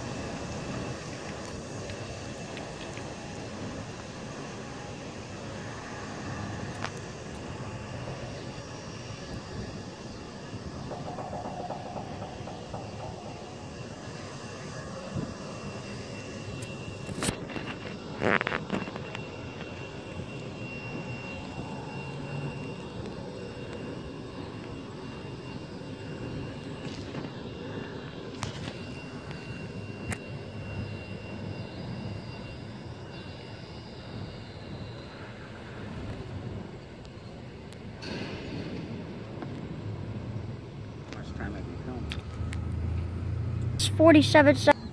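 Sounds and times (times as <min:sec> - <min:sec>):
jet engines whining: 0:00.0 - 0:44.9.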